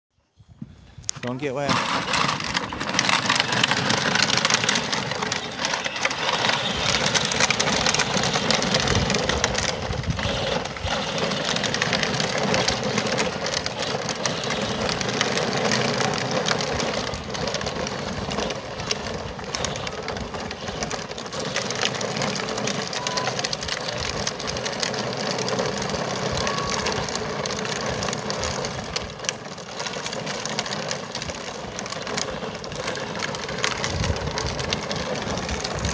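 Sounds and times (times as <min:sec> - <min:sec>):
plastic wheels rumbling on pavement: 0:00.6 - 0:35.9
electric motor whirring: 0:01.8 - 0:30.9.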